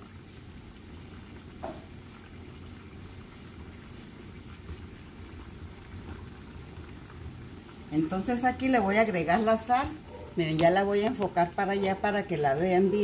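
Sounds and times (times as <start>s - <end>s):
pork fat bubbling in a pan: 0.0s - 13.0s.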